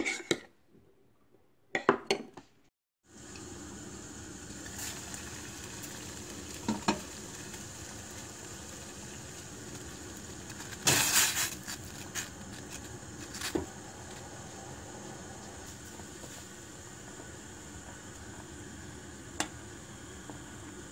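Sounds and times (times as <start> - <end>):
food sizzling in a pan: 3.1 - 20.9.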